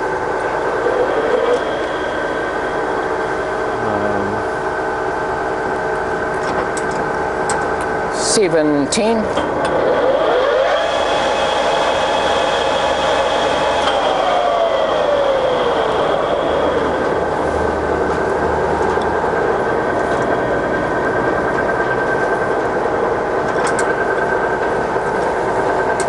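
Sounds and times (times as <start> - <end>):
lathe gear whine: 0.0 - 26.0.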